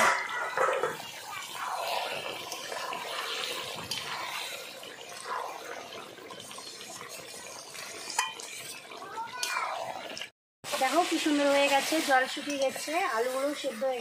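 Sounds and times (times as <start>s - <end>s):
curry sizzling and bubbling: 0.0s - 14.0s
spoon stirring in pot: 0.2s - 10.2s, 12.3s - 13.7s.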